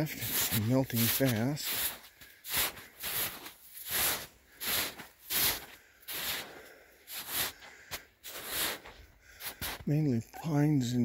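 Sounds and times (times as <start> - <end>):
footsteps crunching on snow: 0.0 - 10.0.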